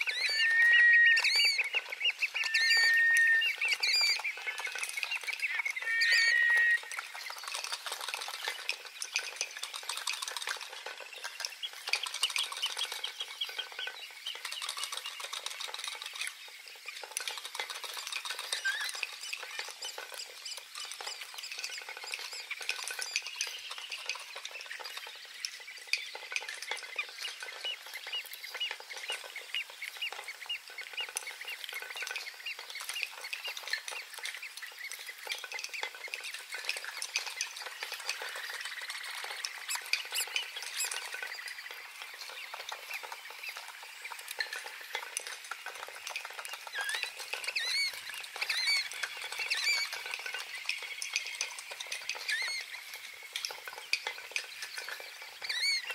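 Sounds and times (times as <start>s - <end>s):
crackling hiss: 0.0s - 55.9s
small birds chirping: 0.0s - 55.9s.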